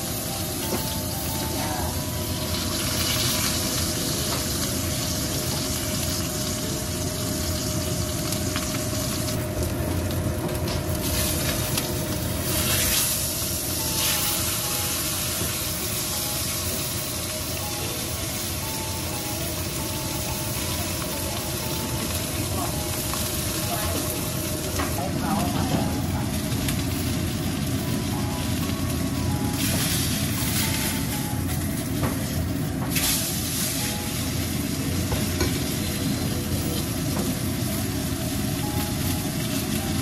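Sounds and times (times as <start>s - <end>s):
fish sizzling in a pan: 0.0s - 40.0s.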